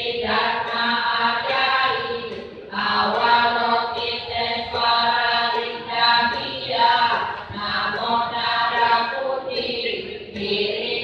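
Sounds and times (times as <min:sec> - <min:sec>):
congregation chanting in unison: 0:00.0 - 0:11.0.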